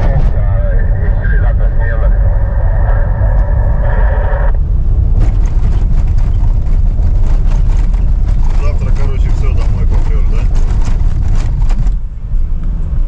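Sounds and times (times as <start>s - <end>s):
mid-range hum: 0.0s - 12.7s
vehicle low rumble: 0.0s - 13.0s.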